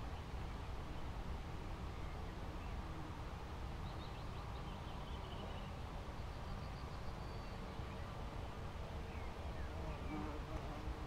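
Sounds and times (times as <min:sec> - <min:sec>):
faint songbird song: 0:00.0 - 0:11.0.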